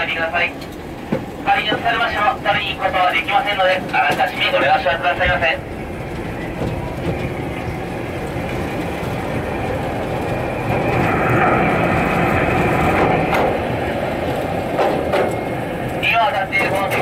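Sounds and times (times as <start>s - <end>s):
railcar wheels and motor: 0.0s - 17.0s.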